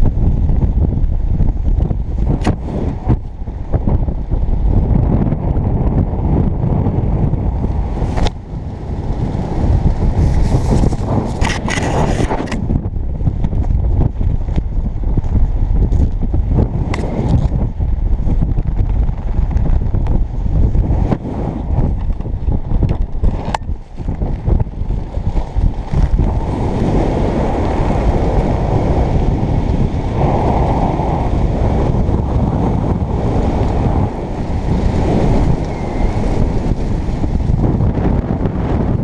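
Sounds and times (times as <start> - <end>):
wind rumbling over microphone: 0.0 - 39.0.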